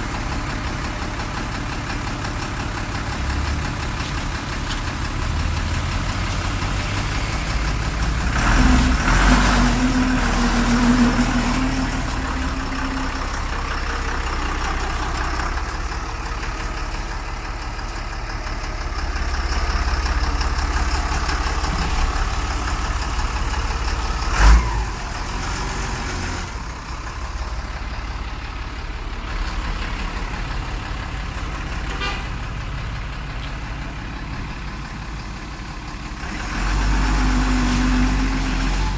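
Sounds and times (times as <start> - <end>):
tractor diesel engine running: 0.0 - 38.9
engine whine: 3.0 - 38.9.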